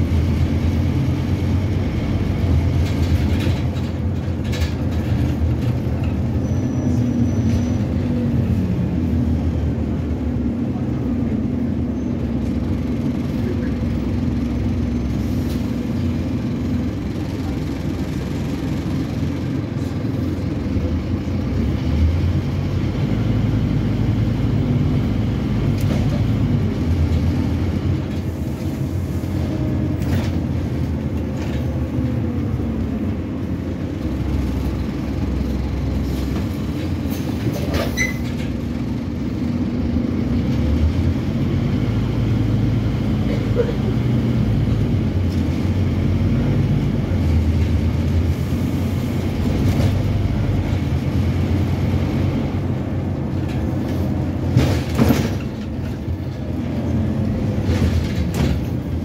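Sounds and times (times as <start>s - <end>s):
bus engine low rumble: 0.0s - 59.0s.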